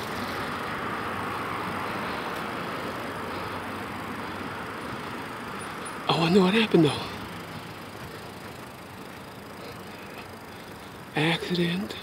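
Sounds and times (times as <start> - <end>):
street noise hiss: 0.0 - 12.0.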